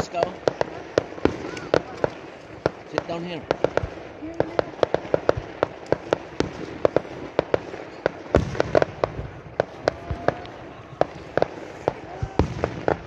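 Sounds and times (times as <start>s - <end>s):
deep firework boom: 0.0s - 13.0s
fireworks bangs and cracks: 0.0s - 13.0s.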